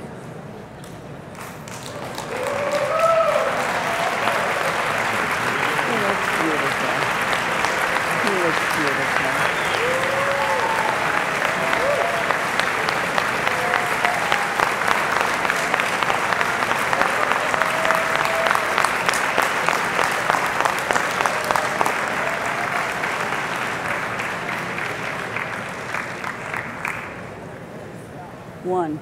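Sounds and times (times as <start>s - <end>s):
large crowd applauding: 1.4s - 27.4s.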